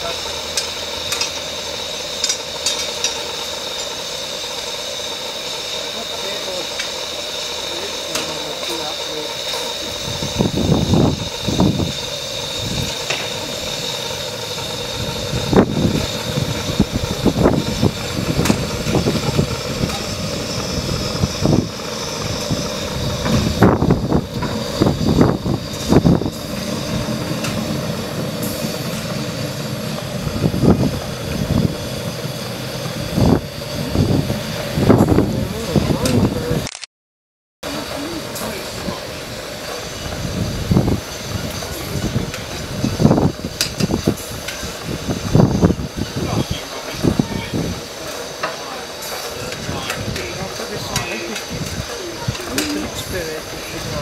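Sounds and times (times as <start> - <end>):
steam locomotive hiss and hum: 0.0 - 36.7, 37.6 - 54.0.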